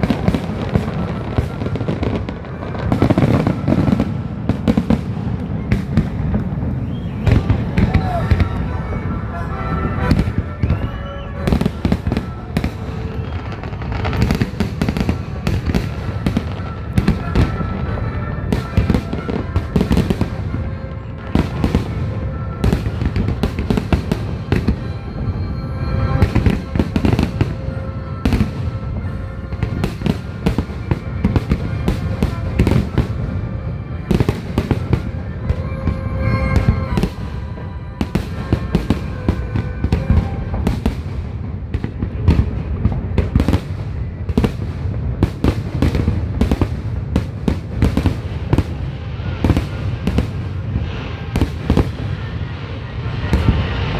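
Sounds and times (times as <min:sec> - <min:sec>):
fireworks booming and crackling: 0:00.0 - 0:53.9
music playing: 0:00.0 - 0:53.9.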